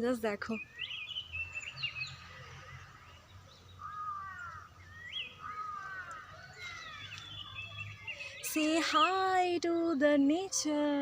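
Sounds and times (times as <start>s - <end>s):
birds singing whistled phrases: 0.4s - 10.4s.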